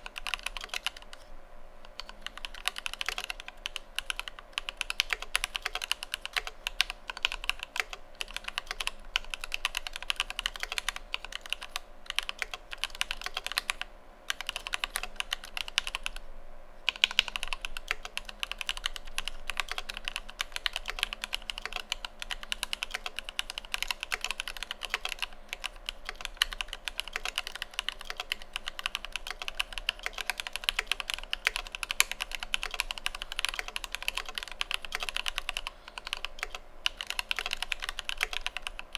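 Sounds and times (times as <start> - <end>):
fast mechanical keyboard typing: 0.0 - 1.2, 1.9 - 16.2, 16.9 - 38.9.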